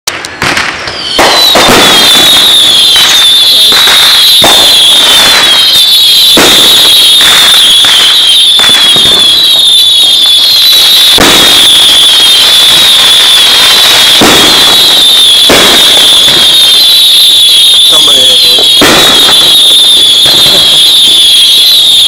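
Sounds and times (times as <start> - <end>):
fireworks bangs and crackles: 0.1 - 22.0
steady high-pitched shrill: 0.8 - 22.0.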